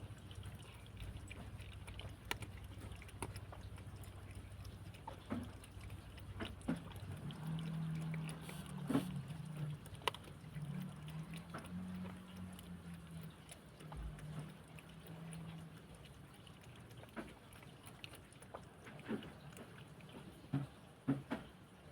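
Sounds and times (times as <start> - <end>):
cats lapping water and eating: 0.0 - 21.9
low steady hum: 0.0 - 21.9.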